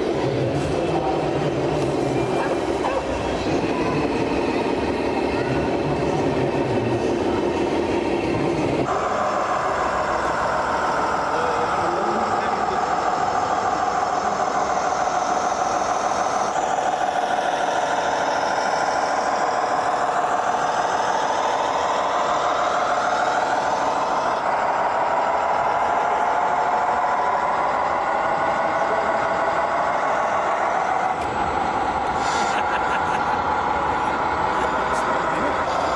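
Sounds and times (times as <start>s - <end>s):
electronic diesel engine sound: 0.0s - 35.9s.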